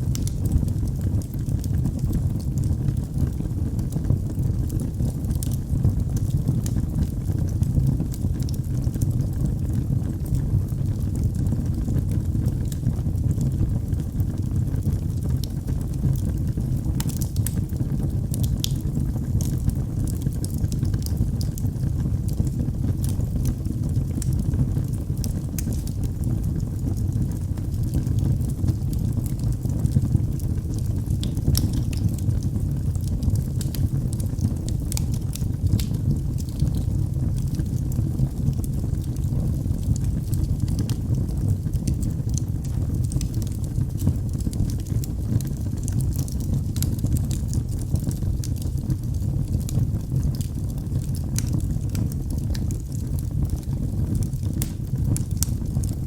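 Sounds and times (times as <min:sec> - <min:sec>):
fire flames rumbling: 0:00.0 - 0:56.0
wood fire crackling and popping: 0:00.0 - 0:56.0.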